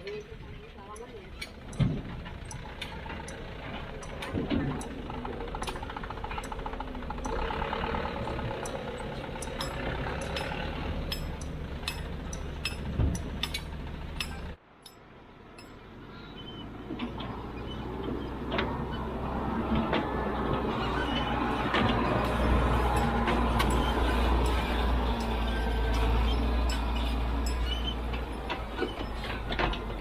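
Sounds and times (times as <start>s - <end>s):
sharp metallic clicks and clanks: 0.9s - 15.0s, 19.7s - 30.0s
heavy machinery engine running: 1.1s - 14.6s, 15.7s - 30.0s.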